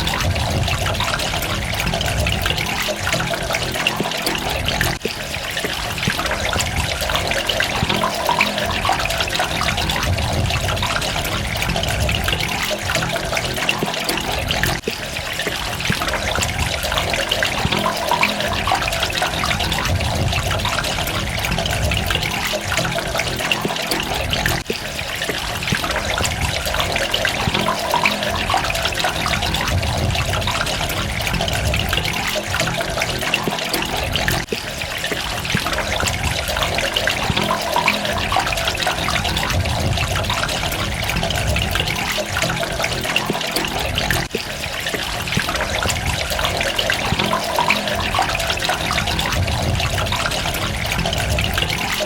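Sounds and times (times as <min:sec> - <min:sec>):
water trickling and splashing: 0:00.0 - 0:52.0.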